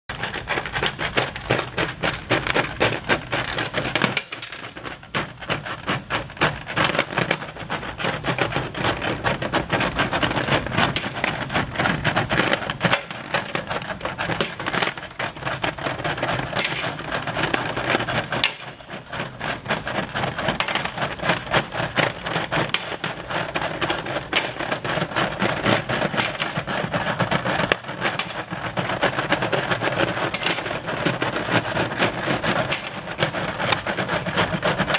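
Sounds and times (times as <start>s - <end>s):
steel parts clattering on conveyor: 0.1s - 34.9s.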